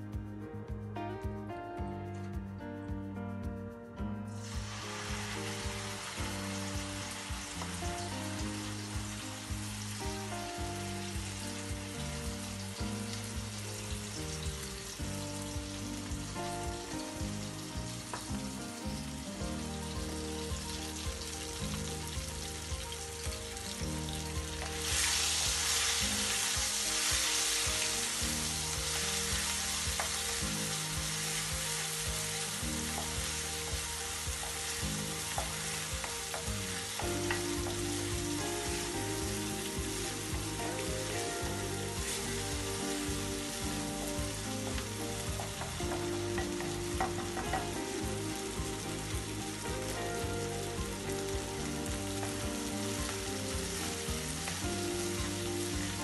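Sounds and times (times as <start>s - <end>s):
sauce sizzling in oil: 4.3s - 56.0s.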